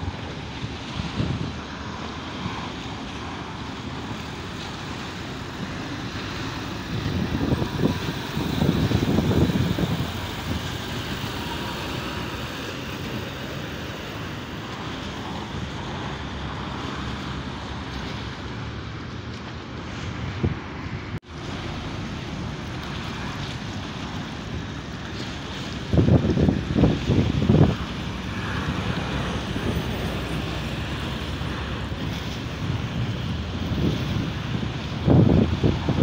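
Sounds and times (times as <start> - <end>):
passing cars: 0.0 - 36.0
truck passing close by: 0.0 - 36.0.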